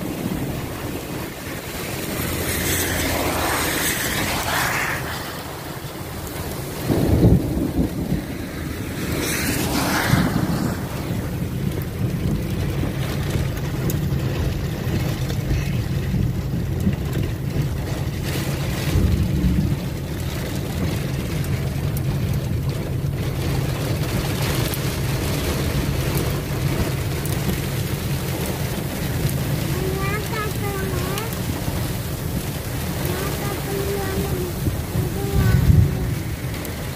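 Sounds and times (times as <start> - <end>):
deeper rumble: 0.0 - 36.9
rain and wind against car: 0.0 - 36.9
road and tyre noise: 0.0 - 36.9.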